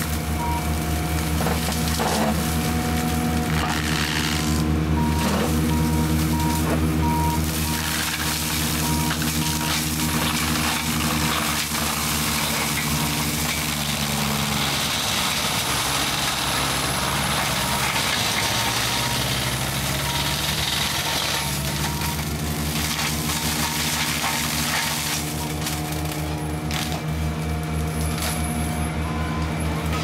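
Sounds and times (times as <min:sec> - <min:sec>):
grinding churning of brush: 0:00.0 - 0:29.0
mulcher engine running: 0:00.0 - 0:30.0.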